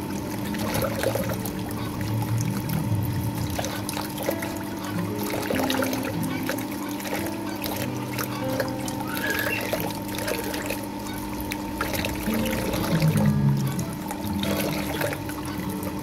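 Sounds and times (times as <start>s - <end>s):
background music: 0.0s - 16.0s
tap water trickling into basin: 0.0s - 16.0s
water splashing from hands washing: 0.0s - 16.0s.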